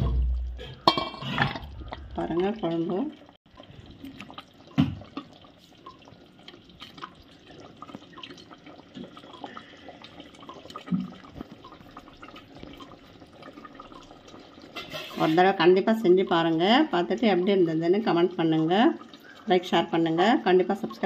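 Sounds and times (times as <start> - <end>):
wet liquid sounds: 0.0 - 21.0.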